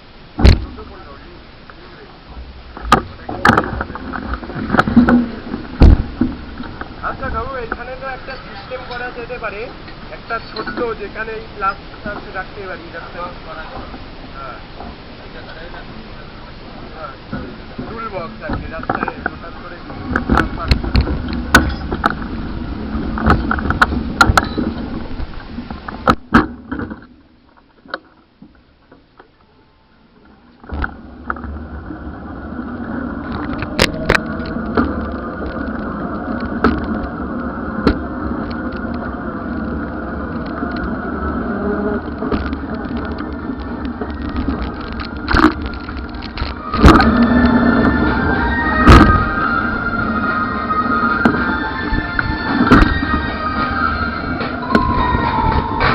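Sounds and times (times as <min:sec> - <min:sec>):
traffic rumble: 0:00.0 - 0:55.9.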